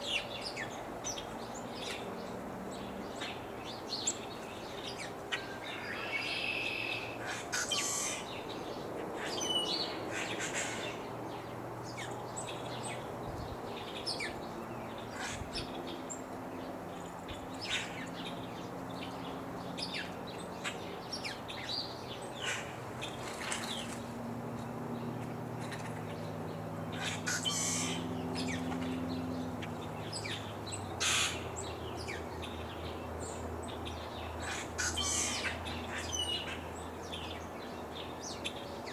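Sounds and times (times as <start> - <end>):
soft steady breeze: 0.0 - 38.9
birds chirping and calling: 3.1 - 16.1, 19.8 - 38.9.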